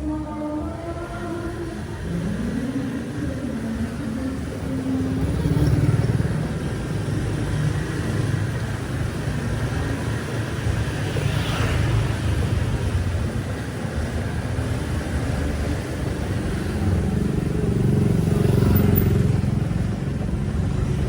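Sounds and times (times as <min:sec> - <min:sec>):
car engines passing: 0:00.0 - 0:21.0
motorbike engines passing: 0:00.0 - 0:21.0.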